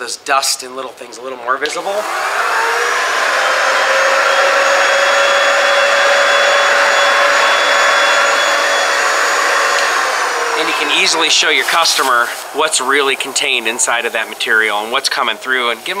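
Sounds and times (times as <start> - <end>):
vacuum cleaner motor whine: 1.8 - 14.9
suction air rushing: 1.8 - 16.0.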